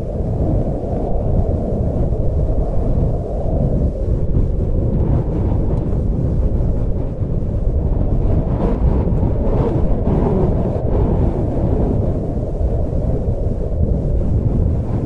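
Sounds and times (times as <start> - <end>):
strong wind blowing: 0.0 - 15.0.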